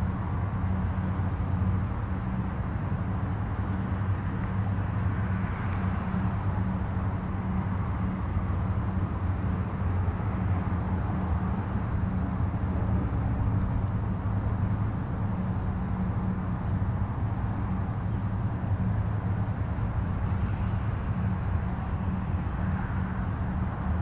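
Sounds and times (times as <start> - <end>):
distant highway traffic rumble: 0.0 - 24.0.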